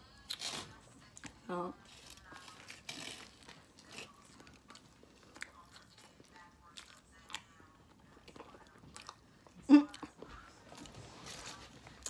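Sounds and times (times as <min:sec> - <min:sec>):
faint chewing: 0:00.1 - 0:12.0.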